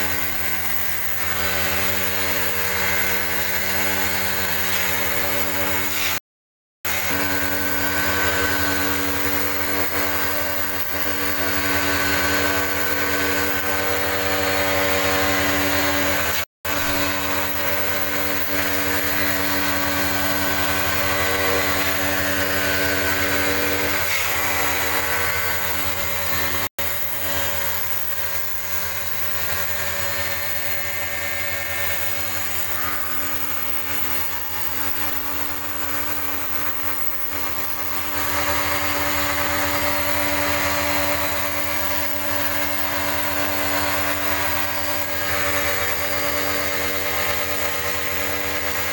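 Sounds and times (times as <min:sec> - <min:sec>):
pressure washer pump humming: 0:00.0 - 0:06.2, 0:06.9 - 0:48.9.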